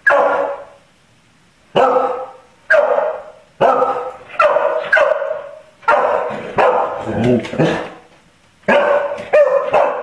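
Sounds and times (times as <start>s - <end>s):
dog barking: 0.0s - 0.8s, 1.7s - 7.9s, 8.7s - 10.0s.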